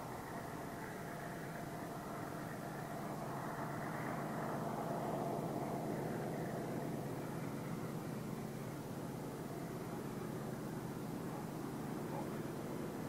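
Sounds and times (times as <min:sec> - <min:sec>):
distant diesel locomotive drone: 0:00.0 - 0:13.0.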